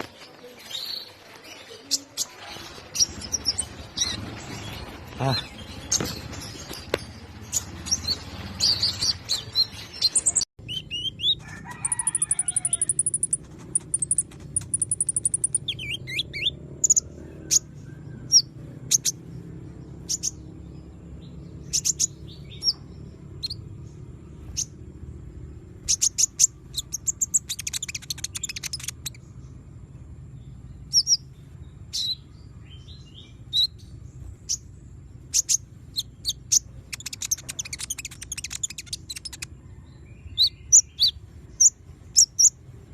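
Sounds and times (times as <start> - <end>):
sunbird chirps and trills: 0.0 - 42.9.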